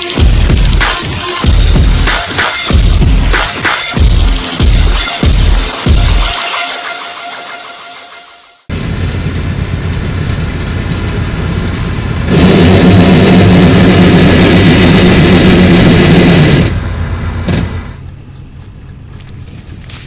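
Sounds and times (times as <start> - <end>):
diesel engine running: 0.0 - 6.4, 8.7 - 20.0.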